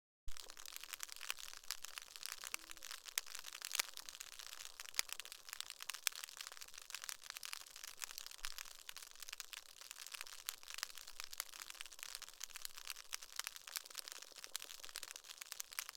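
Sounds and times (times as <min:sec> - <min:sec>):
snapping shrimp crackling underwater: 0:00.3 - 0:15.9.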